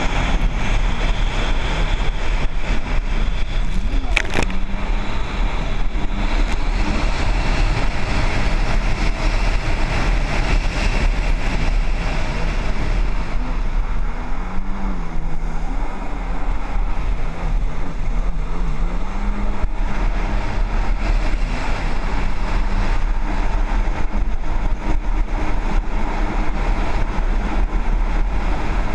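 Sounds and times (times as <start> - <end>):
jet ski engines running: 0.0 - 28.9.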